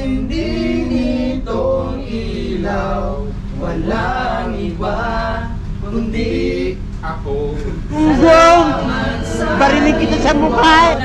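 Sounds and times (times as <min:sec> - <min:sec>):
men singing carols together: 0:00.0 - 0:11.0.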